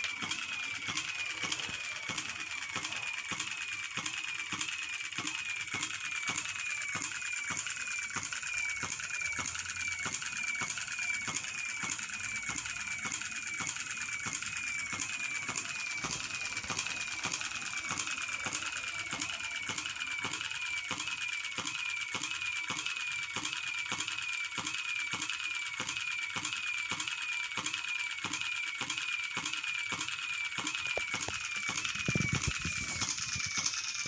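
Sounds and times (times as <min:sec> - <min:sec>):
model engine knocking with squeak: 0:00.0 - 0:34.0.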